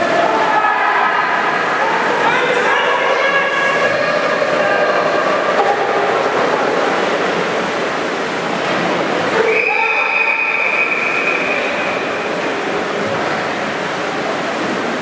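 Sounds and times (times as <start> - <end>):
players' voices: 0.0 - 13.7
splashing water: 0.0 - 15.0.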